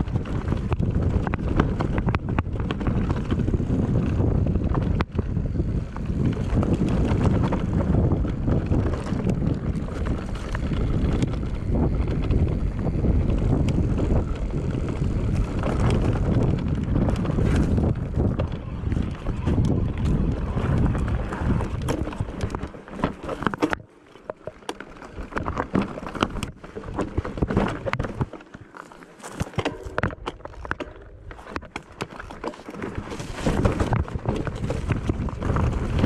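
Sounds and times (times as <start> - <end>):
wind rushing over microphone: 0.0 - 23.8, 29.5 - 36.0.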